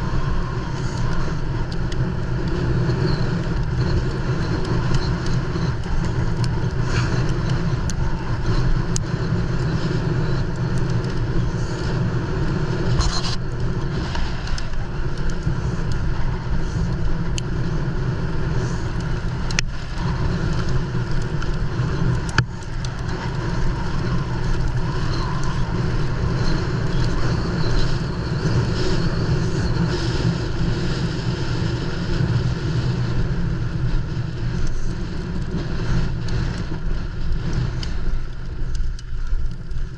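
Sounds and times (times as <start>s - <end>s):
wind and tyre noise: 0.0s - 39.9s.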